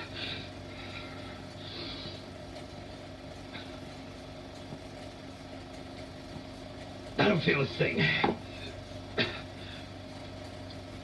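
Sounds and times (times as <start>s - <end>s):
film soundtrack hum and hiss: 0.0s - 11.0s.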